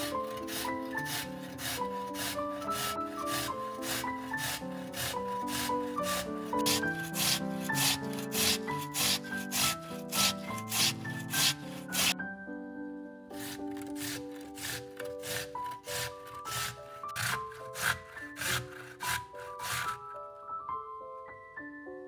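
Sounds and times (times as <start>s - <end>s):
rhythmic rasping strokes: 0.0s - 12.2s, 13.4s - 20.0s
background music with keyboard: 0.0s - 22.0s.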